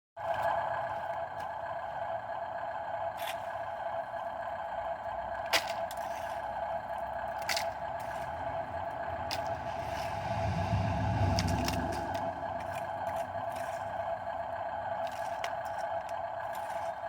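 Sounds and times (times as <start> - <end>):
steady whine: 0.2 - 17.0
truck engine rumble: 0.2 - 17.0.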